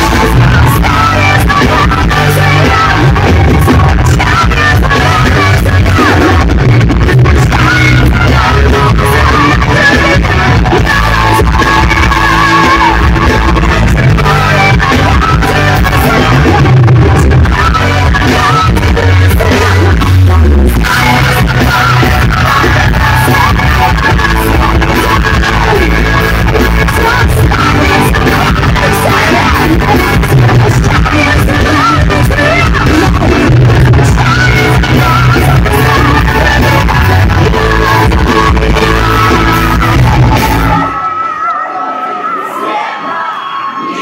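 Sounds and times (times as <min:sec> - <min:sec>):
bass guitar: 0:00.0 - 0:41.3
drums: 0:00.0 - 0:44.0
electric guitars: 0:00.0 - 0:44.0
woman singing: 0:00.0 - 0:44.0.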